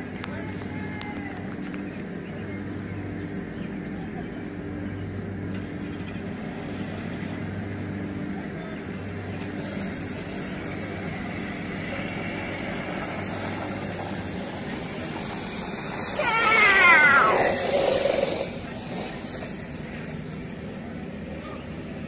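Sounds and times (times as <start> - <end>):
car engine humming: 0.0 - 22.0.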